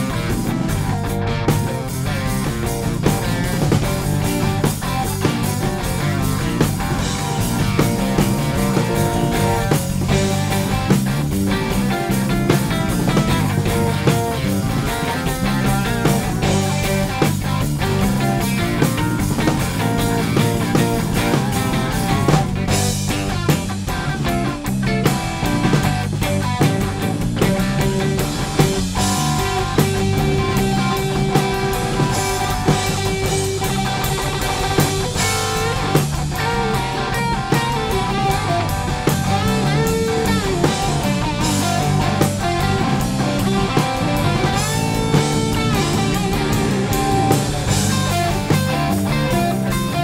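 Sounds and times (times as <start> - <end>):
instrumental rock band: 0.0 - 50.0
lead guitar bending long notes: 0.0 - 50.0.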